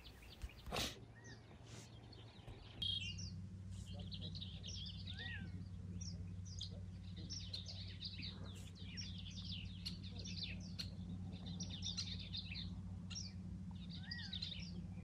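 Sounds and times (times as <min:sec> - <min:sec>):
low hum: 0:00.0 - 0:15.0
small birds chirping: 0:00.0 - 0:15.0.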